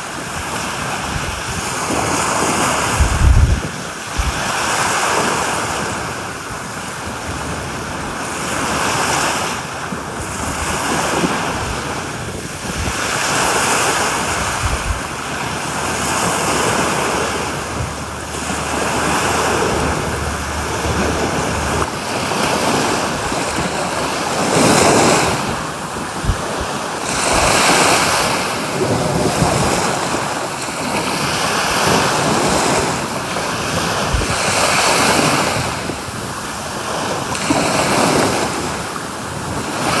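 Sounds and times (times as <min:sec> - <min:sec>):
sea waves breaking on beach: 0:00.0 - 0:40.0
wind buffeting microphone: 0:00.0 - 0:40.0.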